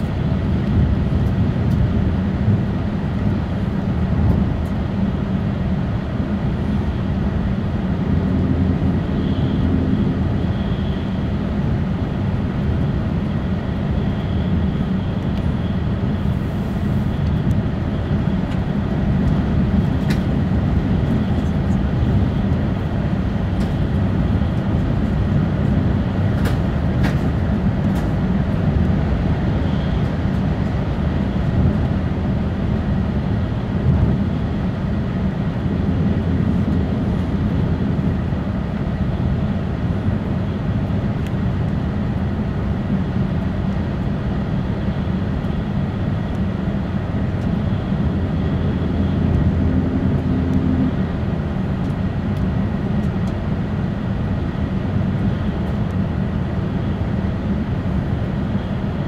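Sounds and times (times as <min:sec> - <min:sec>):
high-speed train low rumble: 0:00.0 - 0:59.0.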